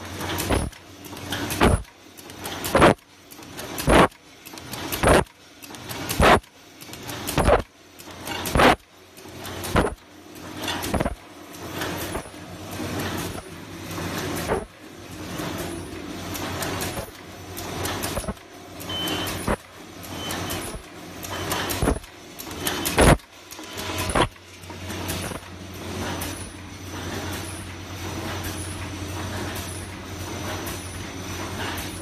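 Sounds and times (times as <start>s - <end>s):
bag making machine running: 0.0s - 32.0s
sharp machine clacks: 0.0s - 32.0s.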